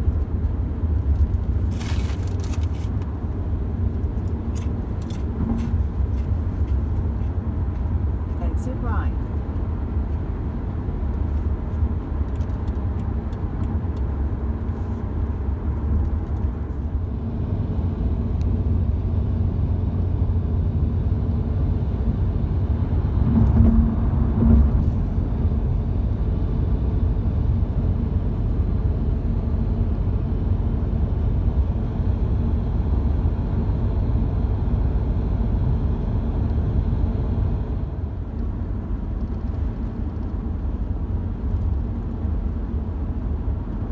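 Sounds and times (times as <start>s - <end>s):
car tyres and engine rumble: 0.0s - 43.9s.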